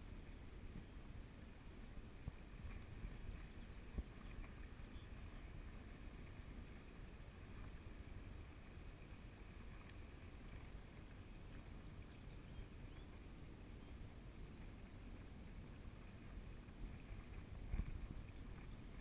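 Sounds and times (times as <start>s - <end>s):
low rumble of wind and water: 0.0s - 19.0s.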